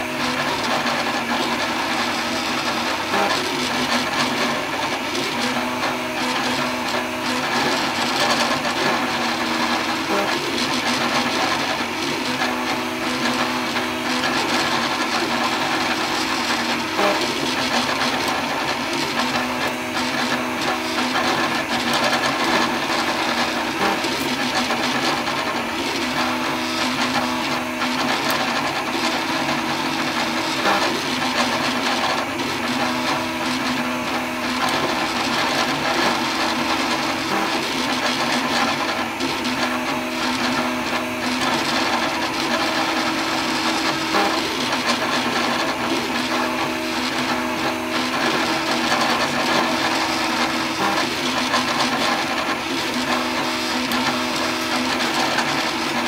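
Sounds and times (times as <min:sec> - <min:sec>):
printer fans whirring: 0:00.0 - 0:56.0
printer motor tones: 0:00.0 - 0:56.0.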